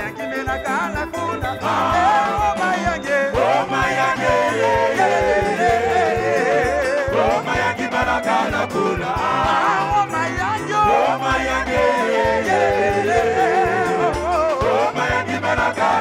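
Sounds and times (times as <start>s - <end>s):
band with stepping bass: 0.0s - 16.0s
men singing gospel: 0.0s - 16.0s.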